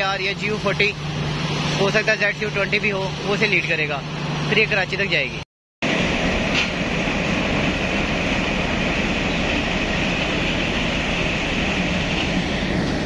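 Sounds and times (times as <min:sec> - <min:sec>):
diesel locomotive moving off: 0:00.0 - 0:13.0.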